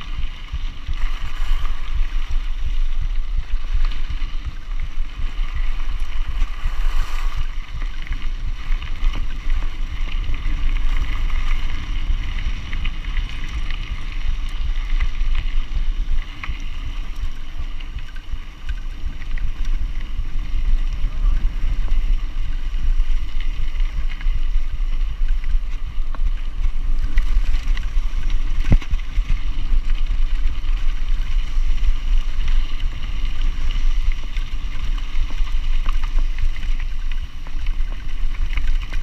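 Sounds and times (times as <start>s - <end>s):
bike tyre and rattle noise: 0.0s - 39.0s
wind rumble on microphone: 0.0s - 39.0s.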